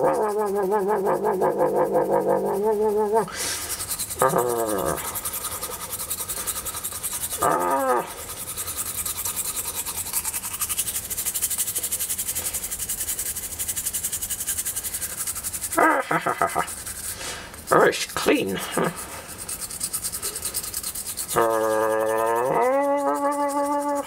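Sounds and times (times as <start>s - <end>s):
toothbrush scrubbing teeth: 0.0s - 24.0s.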